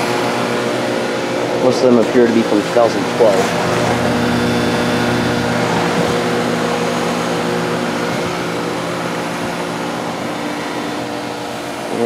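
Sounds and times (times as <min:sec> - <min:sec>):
compressor hum: 0:00.0 - 0:12.0
condenser fans rushing: 0:00.0 - 0:12.0.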